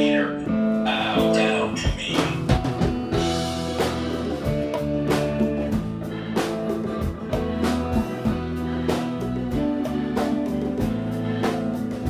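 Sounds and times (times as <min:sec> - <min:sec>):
guitar: 0:00.0 - 0:12.0
steady drum beat: 0:00.9 - 0:12.0.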